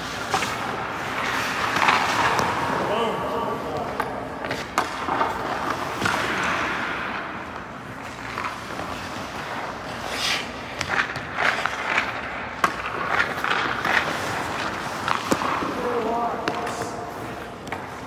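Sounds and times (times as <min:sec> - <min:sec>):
hockey sticks clacking on ice: 0:00.0 - 0:18.0
skate blades scraping ice: 0:00.0 - 0:18.0.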